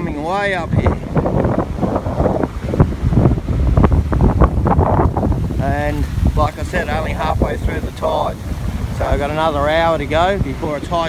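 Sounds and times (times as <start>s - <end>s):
ocean waves breaking: 0.0s - 11.0s
wind buffeting microphone: 0.0s - 11.0s.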